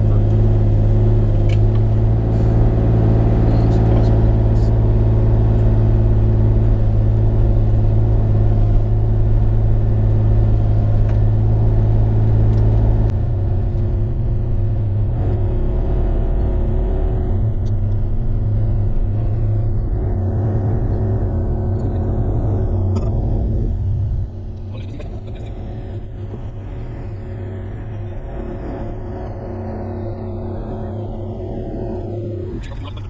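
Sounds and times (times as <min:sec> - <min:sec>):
excavator diesel engine droning: 0:00.0 - 0:33.0.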